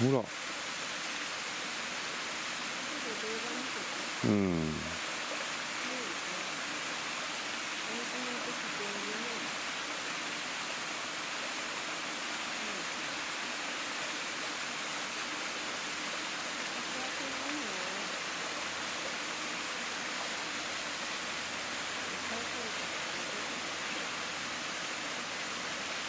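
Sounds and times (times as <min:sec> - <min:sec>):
waterfall rushing: 0:00.0 - 0:05.0, 0:05.6 - 0:26.0
stream running over rocks: 0:00.0 - 0:26.0.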